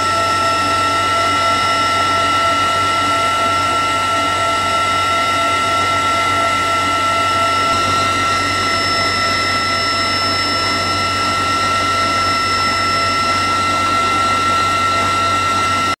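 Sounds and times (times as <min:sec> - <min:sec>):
helicopter engine and rotor noise: 0:00.0 - 0:16.0
high-pitched whines: 0:00.0 - 0:16.0
higher whine: 0:00.0 - 0:16.0.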